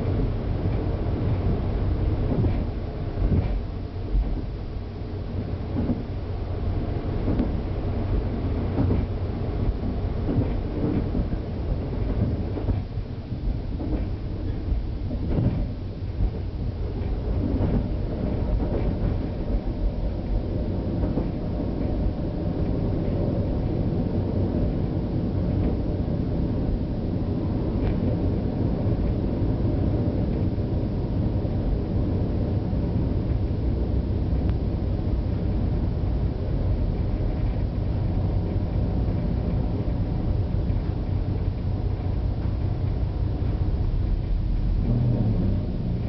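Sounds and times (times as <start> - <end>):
diesel railcar engine rumble: 0.0 - 46.0.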